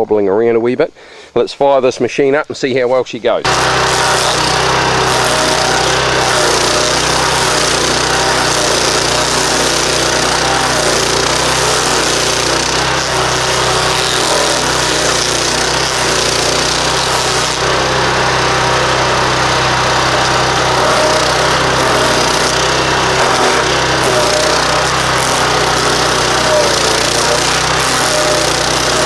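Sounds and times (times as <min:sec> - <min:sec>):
stump grinder engine running: 0:03.4 - 0:29.0.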